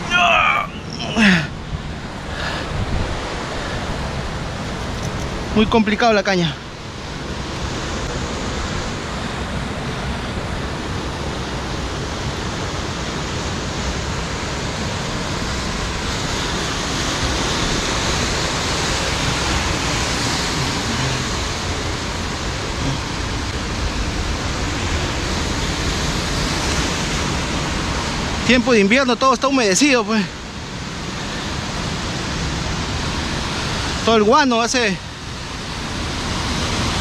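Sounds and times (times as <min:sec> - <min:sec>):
ocean surf breaking on rocks: 0:00.0 - 0:37.0.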